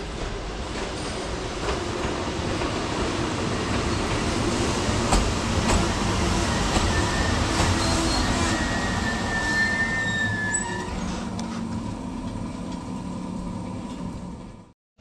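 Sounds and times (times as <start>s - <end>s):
passing train rumble: 0.0s - 14.7s.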